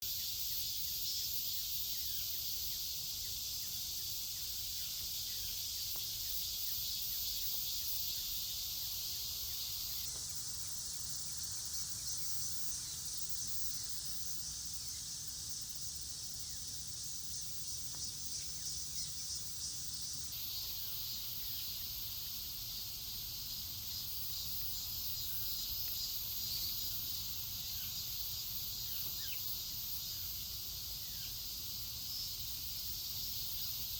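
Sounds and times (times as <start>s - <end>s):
insects chirring: 0.0s - 33.9s.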